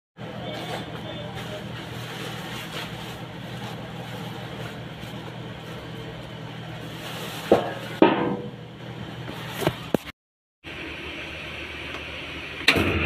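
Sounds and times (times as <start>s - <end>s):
low machine hum: 0.2s - 10.0s, 10.6s - 13.0s.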